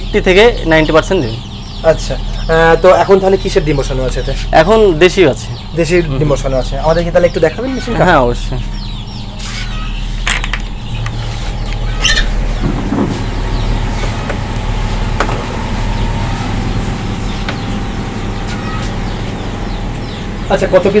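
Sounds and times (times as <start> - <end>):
faint bird chirps: 0.0 - 21.0
incubator humming: 0.0 - 21.0.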